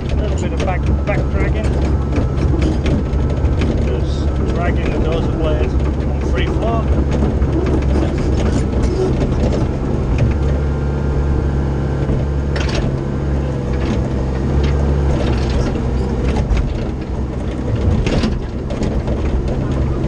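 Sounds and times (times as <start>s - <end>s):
metallic clanks and rattles: 0.0s - 11.0s, 12.0s - 20.0s
excavator diesel engine running: 0.0s - 20.0s.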